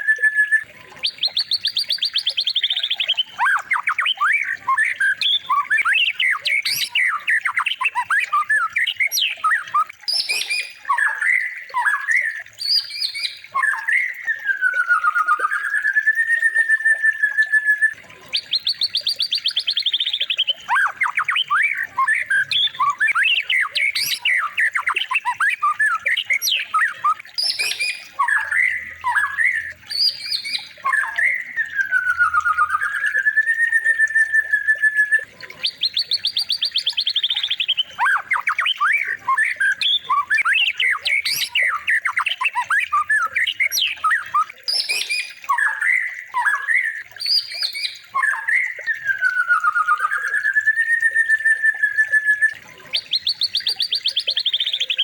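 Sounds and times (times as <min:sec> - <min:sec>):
songbird trills and whistles: 0:00.0 - 0:55.0.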